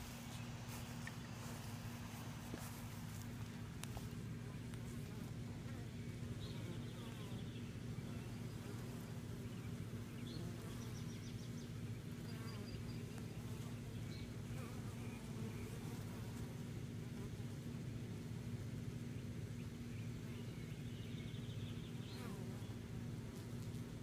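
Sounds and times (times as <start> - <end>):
honeybees buzzing: 0.0 - 17.7, 19.7 - 24.0.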